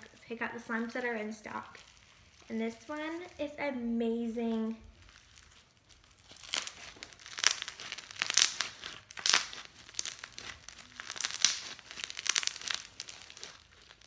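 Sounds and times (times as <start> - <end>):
slime squishing in hands: 0.0 - 3.6, 4.8 - 14.0.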